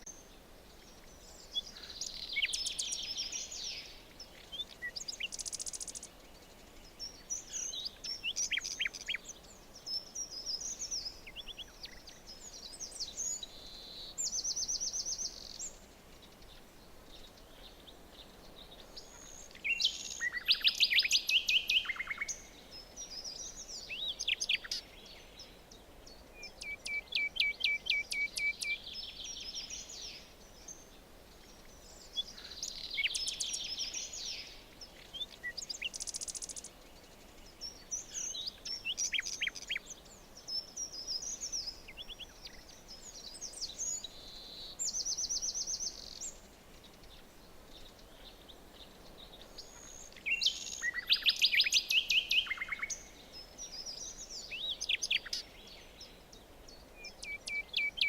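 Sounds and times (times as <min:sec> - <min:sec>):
faint steady hiss: 0:00.0 - 0:58.0
songbirds singing: 0:00.0 - 0:58.0.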